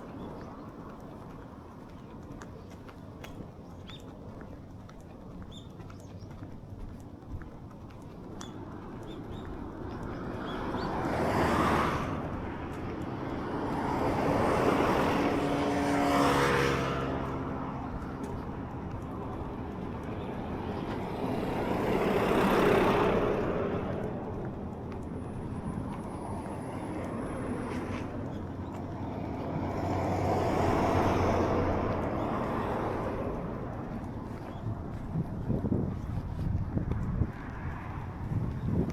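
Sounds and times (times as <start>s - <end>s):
engine hum: 0.0s - 38.9s
vehicles passing: 0.0s - 38.9s.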